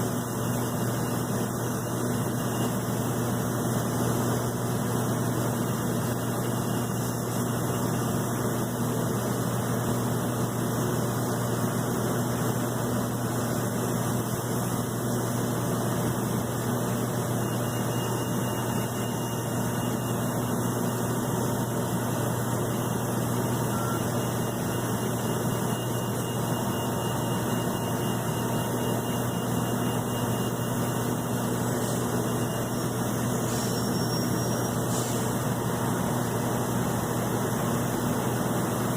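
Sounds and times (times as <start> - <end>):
jet turbine noise with low hum: 0.0 - 38.9.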